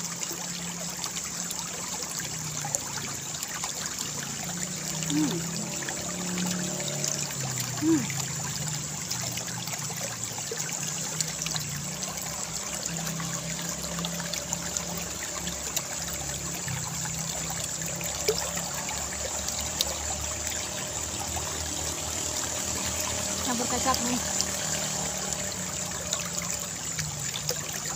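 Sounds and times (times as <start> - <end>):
water trickling in a channel: 0.0 - 27.9.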